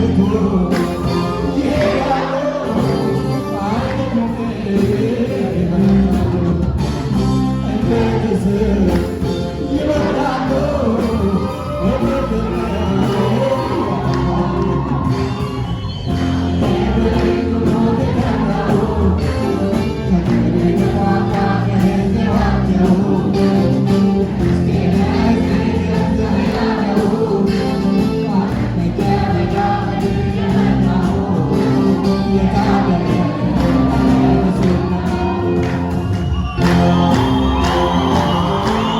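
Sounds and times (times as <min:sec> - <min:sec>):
gospel singing: 0:00.0 - 0:38.9
instrumental accompaniment: 0:00.0 - 0:38.9.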